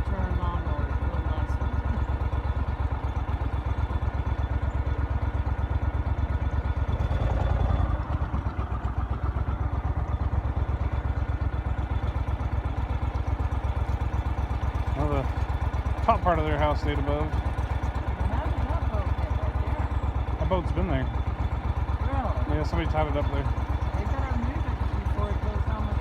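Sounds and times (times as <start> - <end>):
engine running at low speed: 0.0 - 26.0.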